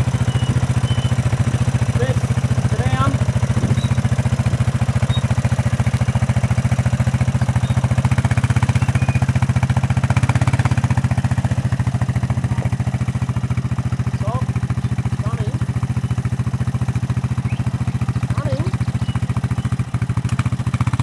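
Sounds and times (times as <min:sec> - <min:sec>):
quad bike engine idling: 0:00.0 - 0:21.0.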